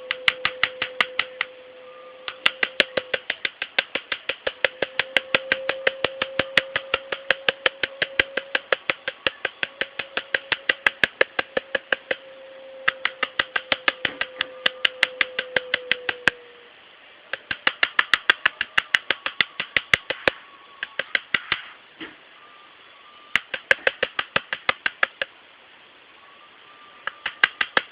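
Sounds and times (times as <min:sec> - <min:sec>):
bird clicking calls: 0:00.0 - 0:01.6, 0:02.2 - 0:16.5, 0:17.3 - 0:21.8, 0:23.3 - 0:25.4, 0:27.0 - 0:27.9.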